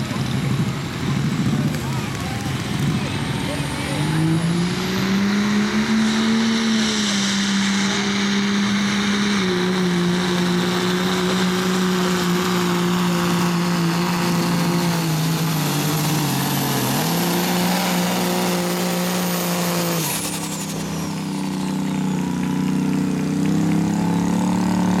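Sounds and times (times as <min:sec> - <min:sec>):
truck diesel engine revving: 0:00.0 - 0:25.0
turbo whistle winding down: 0:04.7 - 0:25.0.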